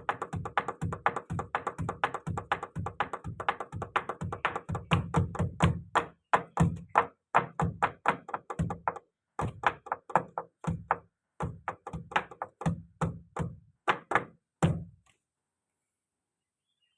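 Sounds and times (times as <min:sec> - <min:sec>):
fast knocks: 0:00.0 - 0:15.0.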